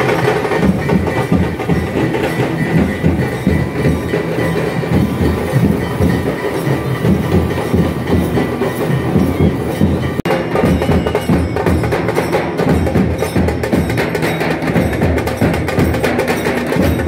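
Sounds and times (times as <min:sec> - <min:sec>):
dhol drums beating fast rhythm: 0:00.0 - 0:17.0.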